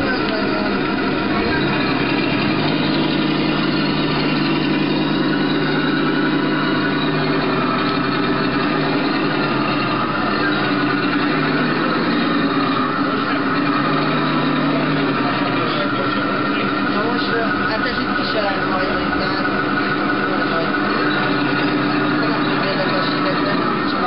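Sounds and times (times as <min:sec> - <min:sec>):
toy engine idle from speaker: 0:00.0 - 0:24.0.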